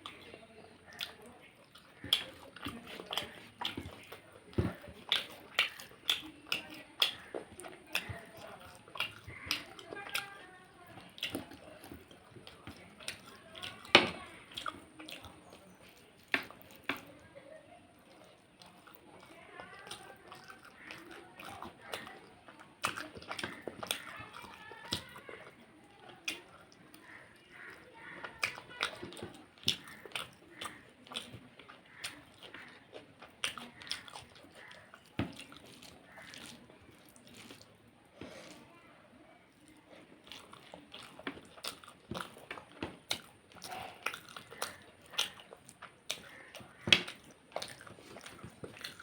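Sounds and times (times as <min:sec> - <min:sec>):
food crunch: 0:00.0 - 0:38.7, 0:39.5 - 0:49.0
person chewing food: 0:00.0 - 0:49.0.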